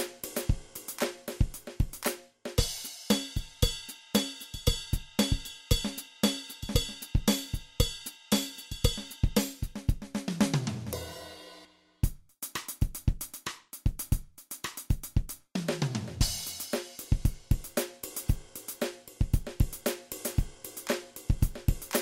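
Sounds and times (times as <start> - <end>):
drum-led background music: 0.0 - 22.0.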